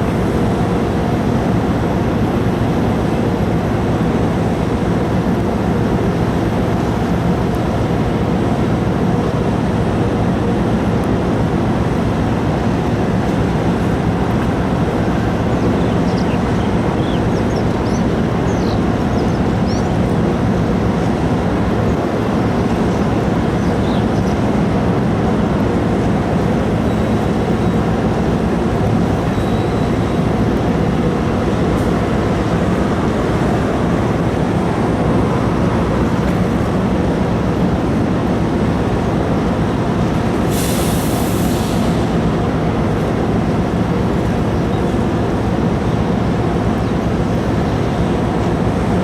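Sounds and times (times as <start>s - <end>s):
diesel engines droning: 0.0s - 49.0s.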